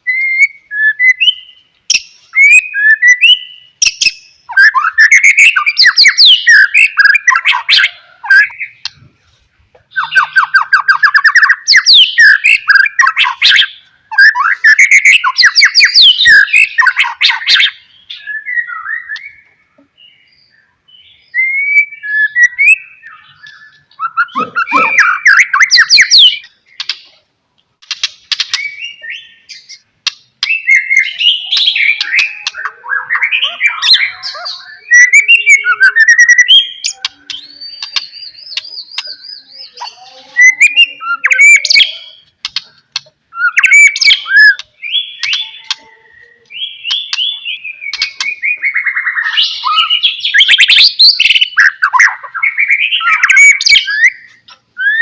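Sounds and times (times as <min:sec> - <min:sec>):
bird singing whistled song: 0:00.0 - 0:09.0, 0:09.9 - 0:26.9, 0:28.3 - 0:55.0.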